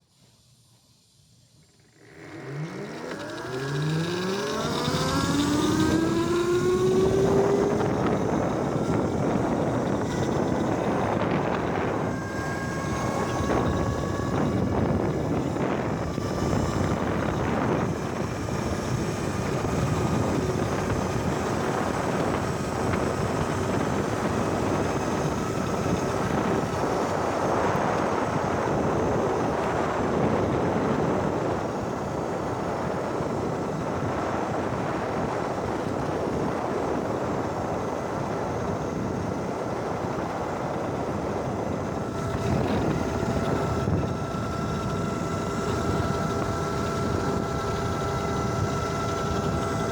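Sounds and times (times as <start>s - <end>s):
faint steady whine: 0.0s - 49.9s
wind rushing over microphone: 2.1s - 49.9s.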